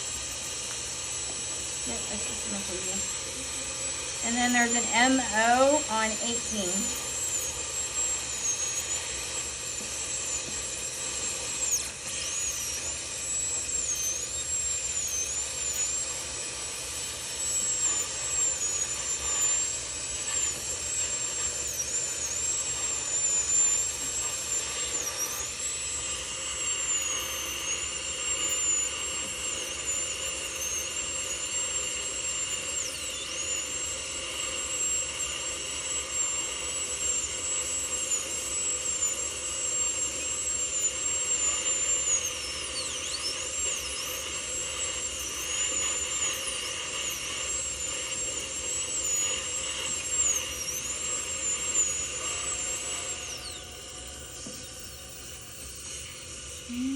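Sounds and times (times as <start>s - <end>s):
dental drill whining: 0.0s - 56.9s.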